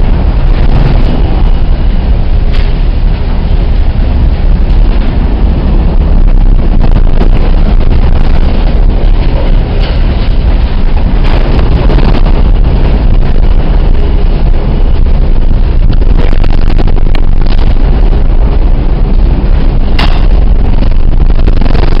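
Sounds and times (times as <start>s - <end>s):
wind and heavy sea rushing: 0.0s - 22.0s.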